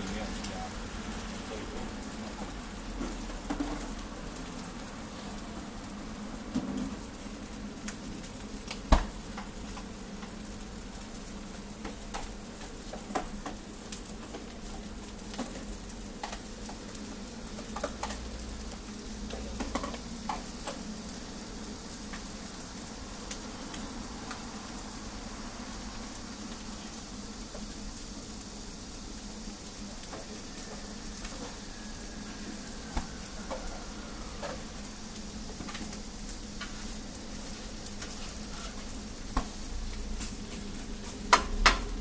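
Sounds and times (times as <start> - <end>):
pancakes sizzling on griddle: 0.0 - 42.0.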